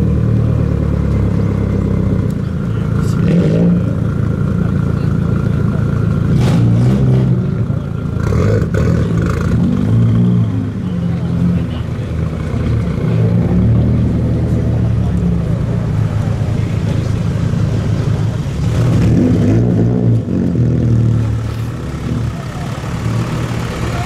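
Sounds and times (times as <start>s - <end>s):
car engine and loud exhaust: 0.0s - 24.0s
engine revving: 0.0s - 24.0s.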